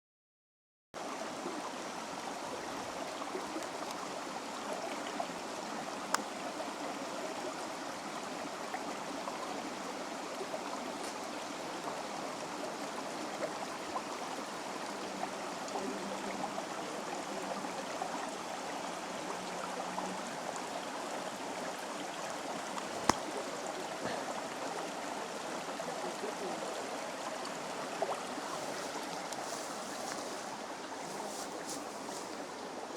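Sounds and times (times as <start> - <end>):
water flowing: 1.0 - 32.9.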